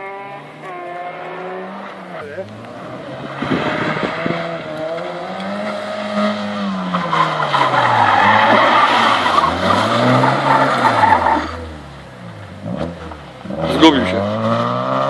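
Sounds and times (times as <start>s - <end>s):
rally car engine revving: 0.0s - 15.0s
tyres sliding on gravel: 1.7s - 14.2s.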